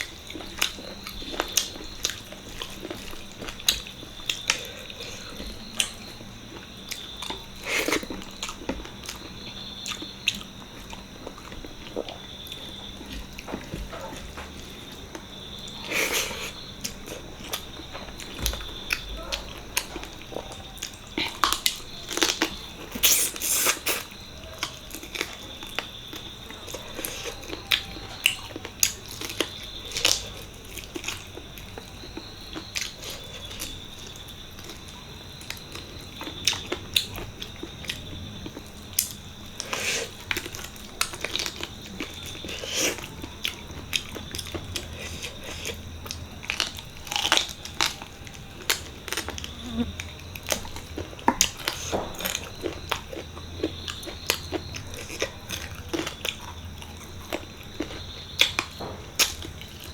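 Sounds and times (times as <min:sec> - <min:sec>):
chewing and mouth smacks: 0:00.0 - 0:59.9.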